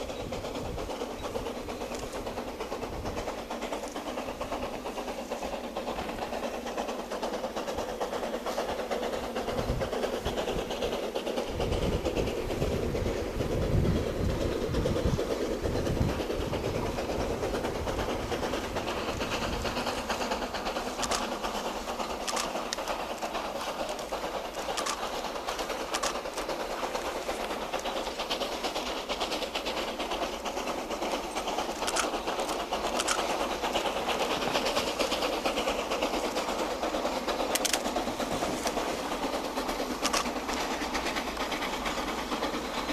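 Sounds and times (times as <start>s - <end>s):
steam train rumbling clatter: 0.0s - 42.9s.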